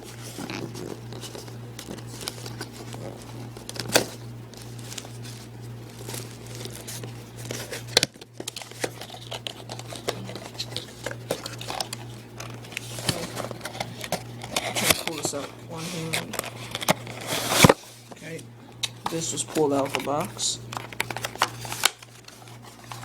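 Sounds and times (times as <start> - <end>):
packaging crinkling and rustling: 0.0 - 23.0
steady low hum: 0.0 - 23.0.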